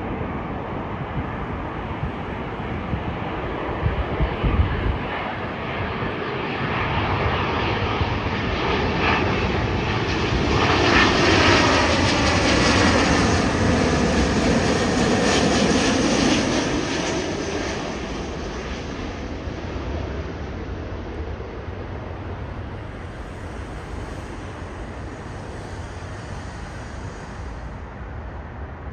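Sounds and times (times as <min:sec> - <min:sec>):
jet airliner passing overhead: 0:00.0 - 0:28.9.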